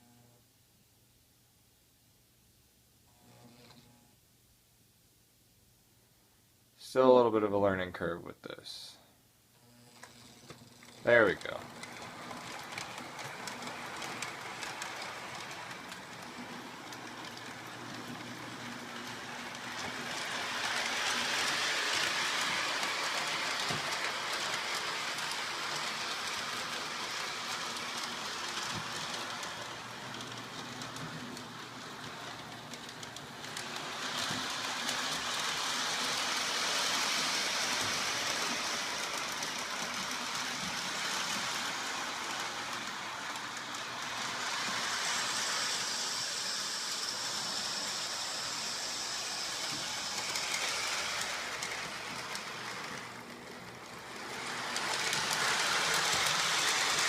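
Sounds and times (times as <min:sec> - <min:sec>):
model train whirring on track: 0:09.6 - 0:57.0.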